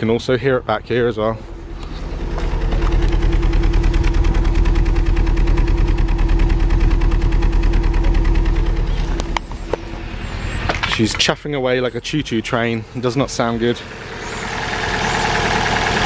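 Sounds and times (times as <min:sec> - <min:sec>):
car exhaust idling unevenly: 0:00.0 - 0:16.0.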